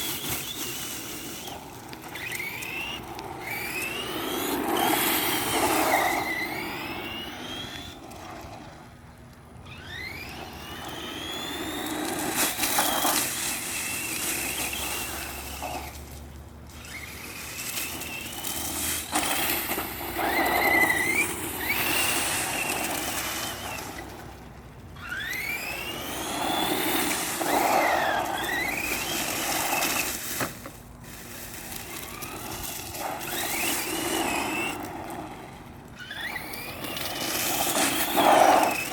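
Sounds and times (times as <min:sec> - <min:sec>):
electric motor whining: 0:00.0 - 0:08.9, 0:09.6 - 0:38.9
rushing drive noise: 0:00.0 - 0:38.9.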